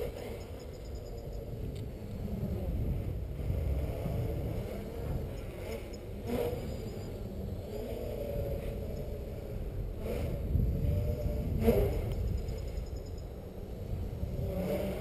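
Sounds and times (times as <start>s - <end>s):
quadcopter buzzing: 0.0s - 15.0s.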